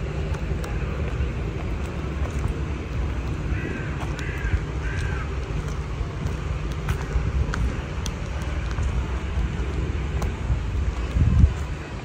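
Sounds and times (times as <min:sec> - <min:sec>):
distant city traffic: 0:00.0 - 0:12.0
wind: 0:00.0 - 0:12.0.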